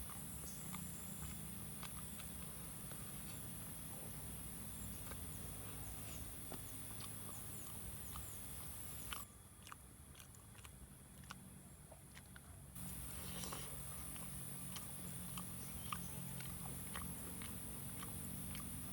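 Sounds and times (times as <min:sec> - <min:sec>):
person chewing and crunching food: 0:00.0 - 0:18.9.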